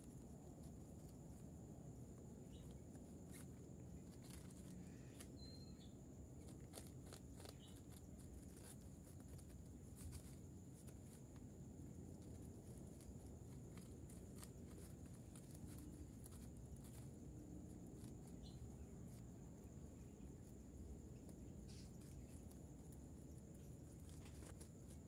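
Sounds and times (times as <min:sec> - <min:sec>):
rabbits nibbling stalks: 0:00.0 - 0:25.0.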